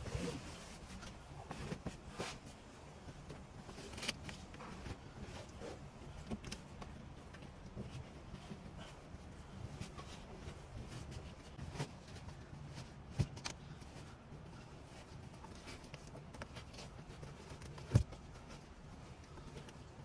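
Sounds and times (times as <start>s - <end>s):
faint rustling of fabric: 0.0s - 20.0s
low steady hum: 0.0s - 20.0s.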